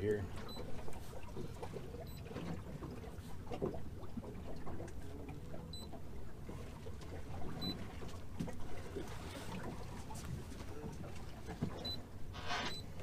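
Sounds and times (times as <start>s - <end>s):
boat engine rumble: 0.0s - 13.0s
water knocks and splashes: 0.0s - 13.0s.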